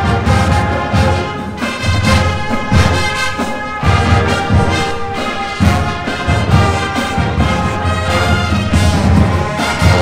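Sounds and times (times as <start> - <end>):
marching band playing: 0.0 - 10.0.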